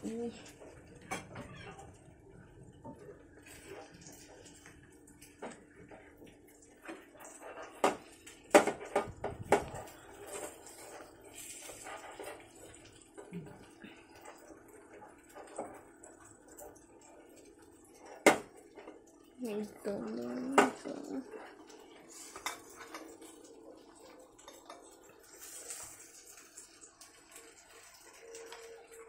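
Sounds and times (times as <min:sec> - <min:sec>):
steel bowls and utensils clinking: 0:03.4 - 0:29.0.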